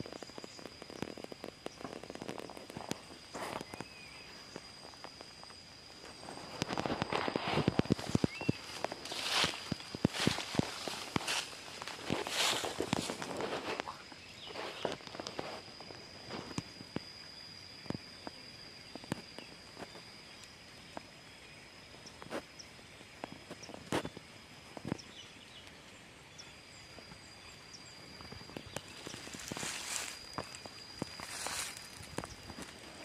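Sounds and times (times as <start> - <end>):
steady high-pitched tone: 0.0 - 21.4, 26.7 - 33.0.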